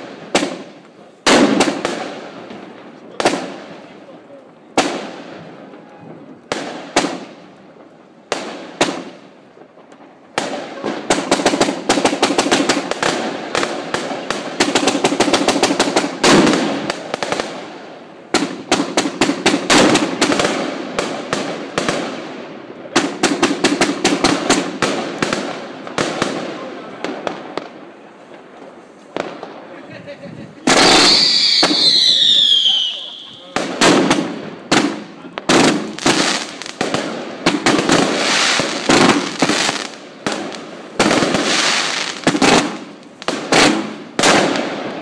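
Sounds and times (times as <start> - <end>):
fireworks launching and bursting: 0.0 - 45.0.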